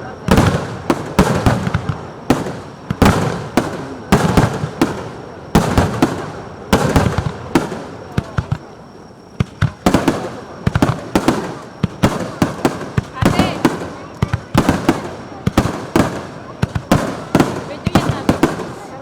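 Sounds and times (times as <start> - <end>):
firework crackles: 0.0 - 19.0
firework shells bursting: 0.3 - 19.0.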